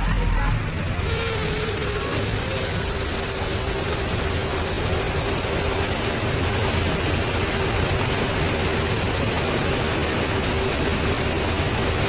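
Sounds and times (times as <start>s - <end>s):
floodwater rushing roar: 0.6s - 12.0s.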